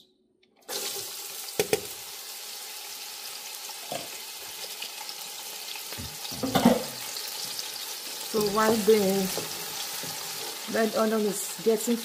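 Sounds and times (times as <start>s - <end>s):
onions sizzling in oil: 0.6s - 12.0s.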